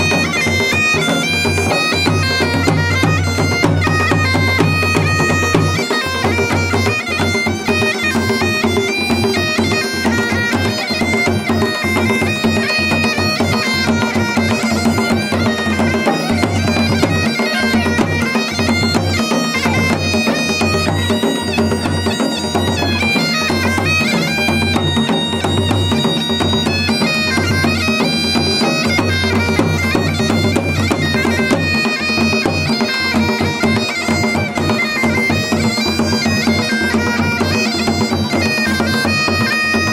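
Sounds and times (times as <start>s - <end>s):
bagpipe folk melody: 0.0s - 39.9s.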